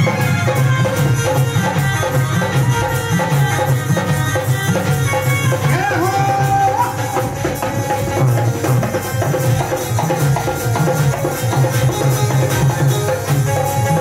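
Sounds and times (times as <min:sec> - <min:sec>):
dholak drum beating: 0:00.0 - 0:14.0.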